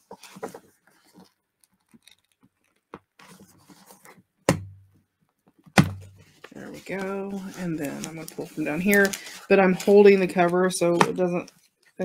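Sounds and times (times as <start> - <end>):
paper rustling: 0.0 - 4.2, 5.9 - 11.9.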